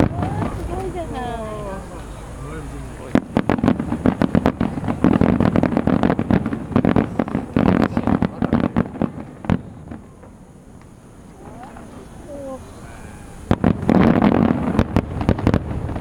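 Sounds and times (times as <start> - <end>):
fireworks bursting with loud bangs: 0.0 - 16.0.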